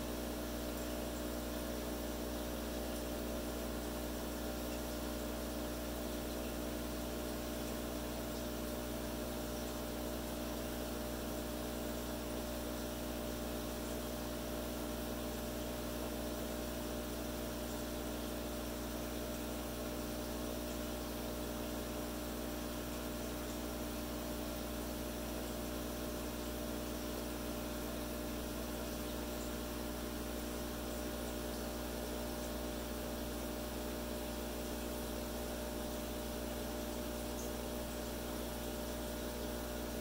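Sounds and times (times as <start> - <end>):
aquarium pump humming: 0.0 - 40.0.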